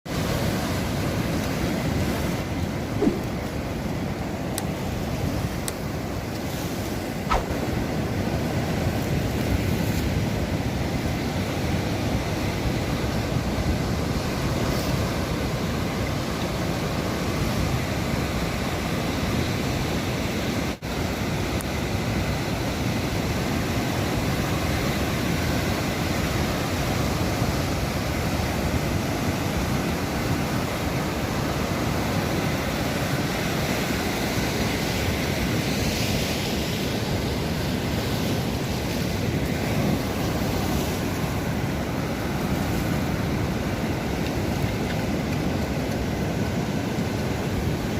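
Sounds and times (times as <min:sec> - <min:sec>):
sea waves washing on shore: 0:00.1 - 0:47.9.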